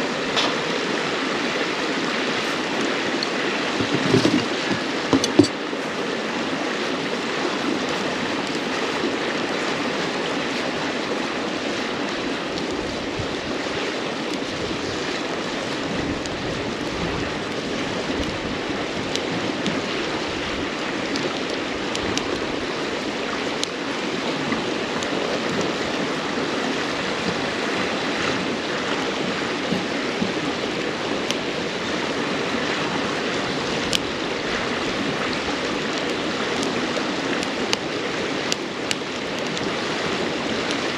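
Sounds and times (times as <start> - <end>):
river flowing over stones: 0.0 - 40.9
firewood crackling and popping: 6.8 - 40.9.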